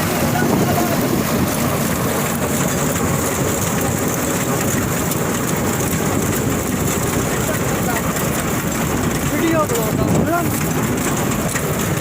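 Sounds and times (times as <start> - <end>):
straw chopper running: 0.0 - 12.0.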